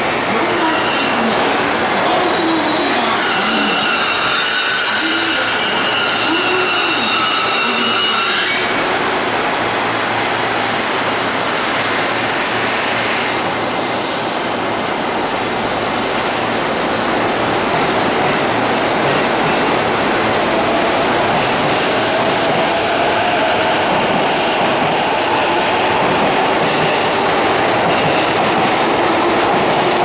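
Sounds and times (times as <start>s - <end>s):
electric train rushing noise: 0.0s - 30.0s.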